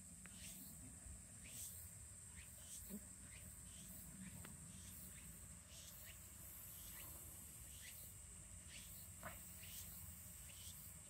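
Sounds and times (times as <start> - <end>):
high-pitched insect drone: 0.3 - 11.0.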